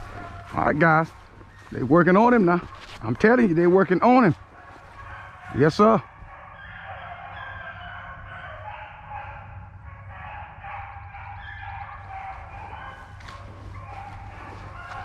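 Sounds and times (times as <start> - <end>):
distant hounds baying: 0.0 - 15.0.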